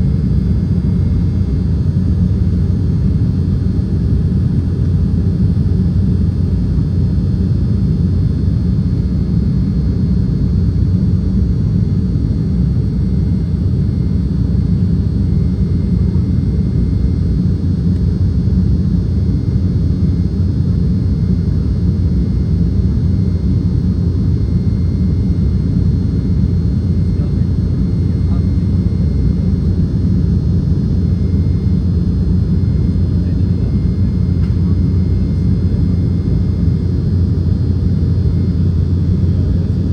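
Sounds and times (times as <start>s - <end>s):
faint high whine: 0.0s - 39.9s
jet cabin engine rumble: 0.0s - 39.9s.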